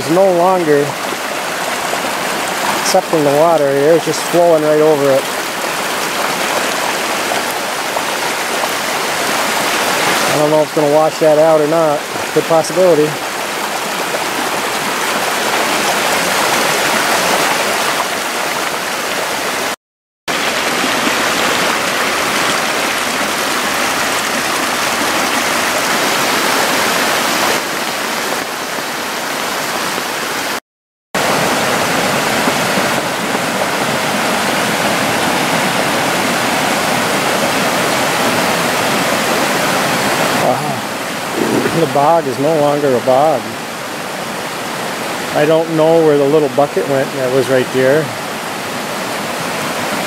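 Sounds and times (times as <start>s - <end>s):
floodwater rushing: 0.0s - 30.6s, 31.2s - 50.0s.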